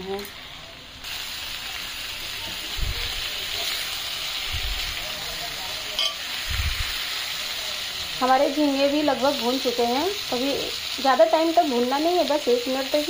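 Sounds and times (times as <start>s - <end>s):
prawns sizzling in a pan: 1.0s - 13.0s.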